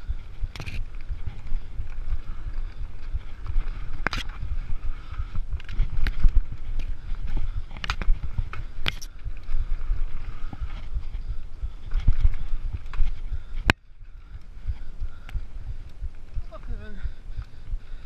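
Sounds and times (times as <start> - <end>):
bike rattling clacks: 0.0 - 18.0
bike tyres rumbling on dirt: 0.0 - 18.0
wind buffeting microphone: 0.0 - 18.0.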